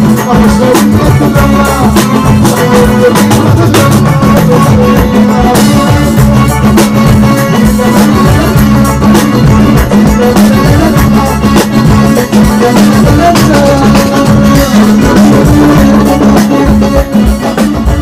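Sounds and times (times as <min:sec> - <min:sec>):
drum kit beat: 0:00.0 - 0:18.0
live band music: 0:00.0 - 0:18.0.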